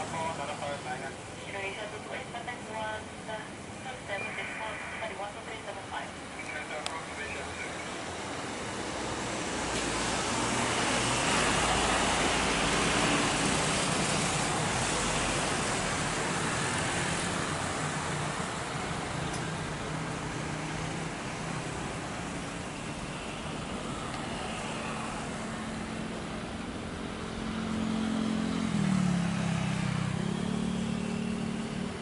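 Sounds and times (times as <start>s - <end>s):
jet airliner engine roar: 0.0s - 30.4s.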